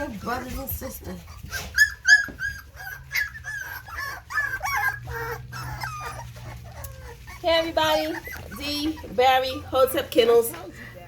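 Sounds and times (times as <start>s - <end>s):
puppies whimpering and squealing: 0.0s - 10.8s.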